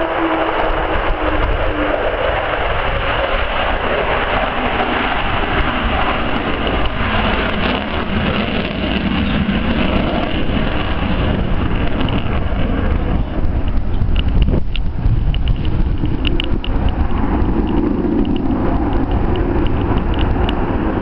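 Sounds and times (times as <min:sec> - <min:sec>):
jet aircraft roaring: 0:00.0 - 0:21.0.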